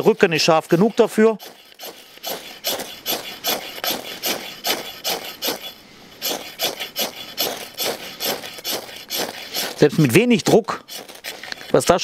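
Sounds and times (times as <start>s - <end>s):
knife scraping ferro rod: 0.0s - 12.0s.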